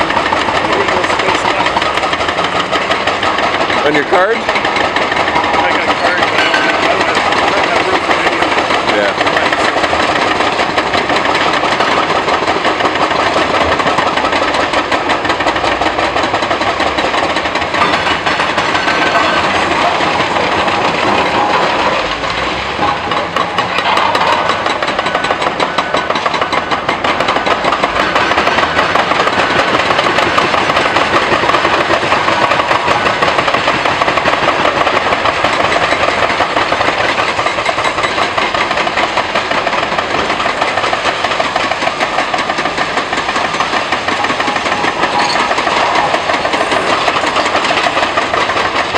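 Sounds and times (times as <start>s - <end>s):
concrete being crushed: 0.0s - 40.9s
diesel engines under load: 0.0s - 48.9s.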